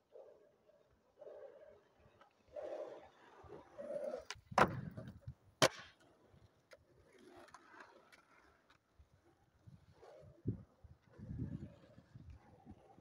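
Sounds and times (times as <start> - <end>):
skateboard wheels rolling: 0.0 - 13.0
skateboard clacking on asphalt: 1.2 - 13.0.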